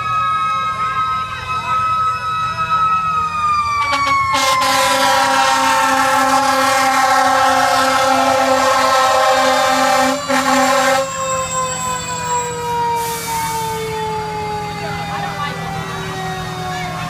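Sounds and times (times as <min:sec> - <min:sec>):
fire engine sirens winding down: 0:00.0 - 0:17.0.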